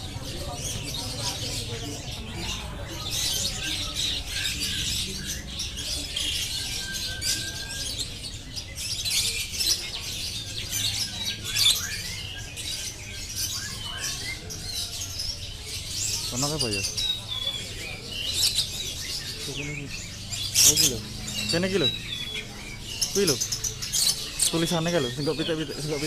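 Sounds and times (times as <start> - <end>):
caged birds chirping: 0.0 - 26.0.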